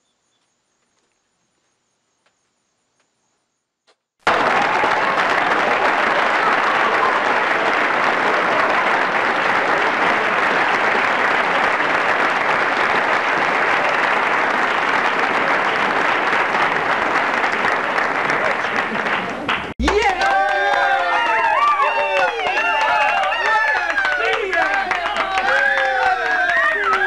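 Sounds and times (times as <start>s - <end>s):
applause: 4.2s - 27.0s.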